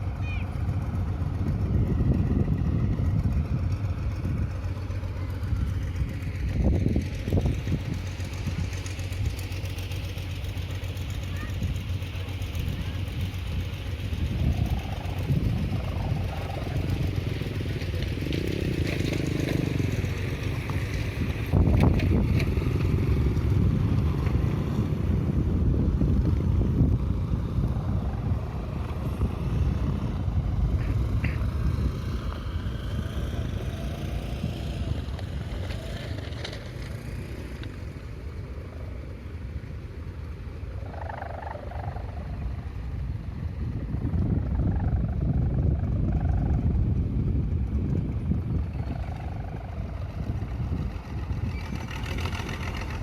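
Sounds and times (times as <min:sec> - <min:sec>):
vehicle passing with low rumble: 0:00.0 - 0:53.0.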